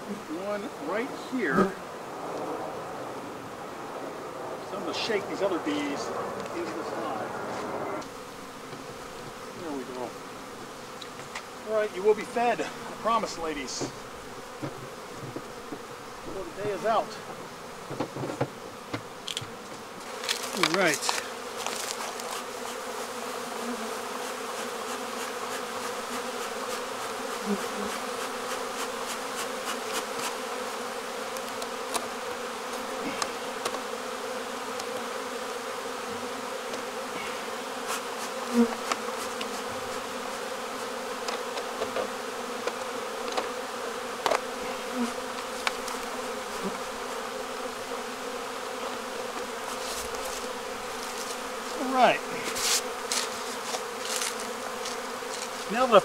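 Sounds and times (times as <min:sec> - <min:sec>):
honeybees buzzing: 0:00.0 - 0:56.0
single bee buzzing past: 0:00.0 - 0:56.0.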